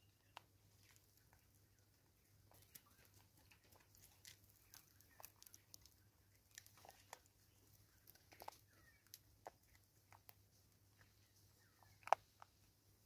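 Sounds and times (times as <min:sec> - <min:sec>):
monkeys feeding clicks and rustles: 0:00.2 - 0:12.7.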